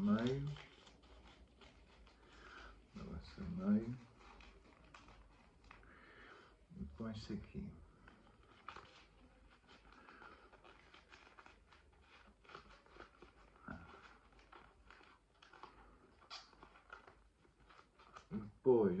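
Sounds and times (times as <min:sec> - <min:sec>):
paper and wallet rustling: 0:00.0 - 0:06.0, 0:07.8 - 0:19.0.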